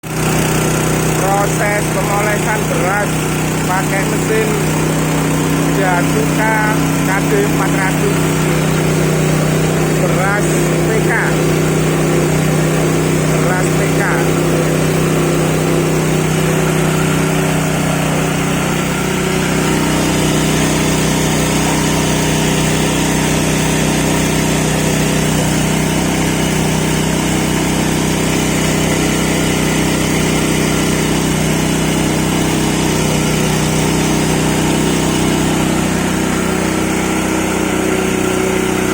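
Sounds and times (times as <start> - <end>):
rice mill humming: 0.0 - 38.9.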